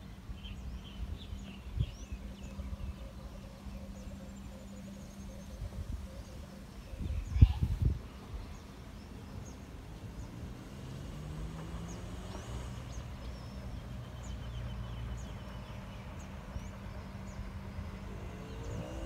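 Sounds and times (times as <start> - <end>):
low engine drone: 0.0 - 19.0
small birds chirping: 0.0 - 19.0.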